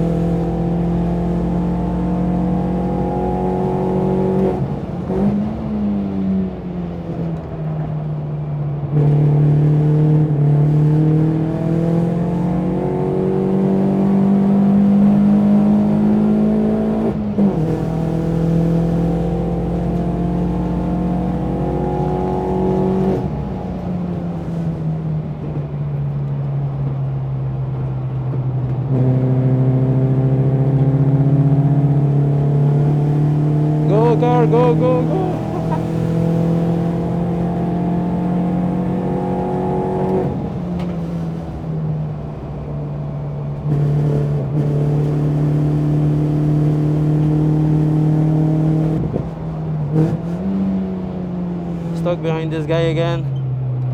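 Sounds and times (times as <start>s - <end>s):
race car engine revving: 0.0s - 6.3s, 8.9s - 25.7s, 28.1s - 42.7s, 43.4s - 53.9s.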